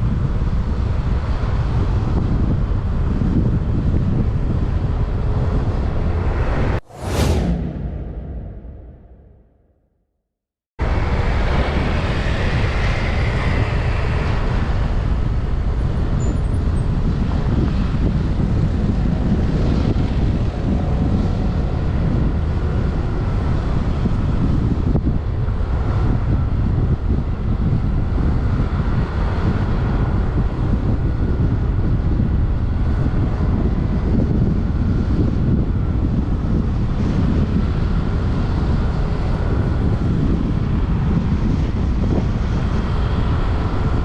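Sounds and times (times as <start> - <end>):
wind rumbling on microphone: 0.0 - 9.6, 10.8 - 44.0.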